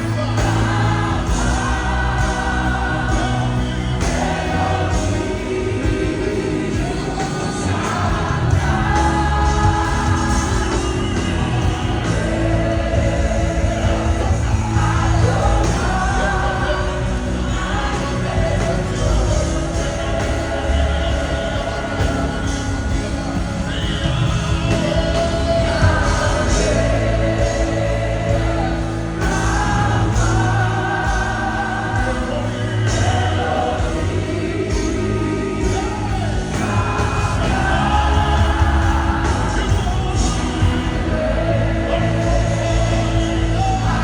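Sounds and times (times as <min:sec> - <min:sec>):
gospel singing with band: 0:00.0 - 0:44.0
steady bass line: 0:00.0 - 0:44.0.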